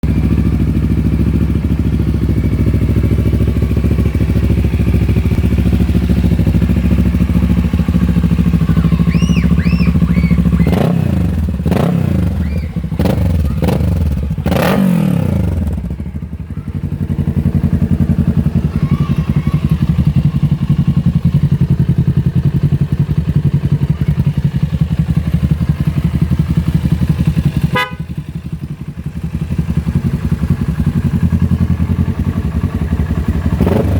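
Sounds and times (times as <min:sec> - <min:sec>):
engine throttle blips: 0:00.0 - 0:21.5, 0:23.1 - 0:33.9
motorcycle engine idling: 0:00.0 - 0:33.9.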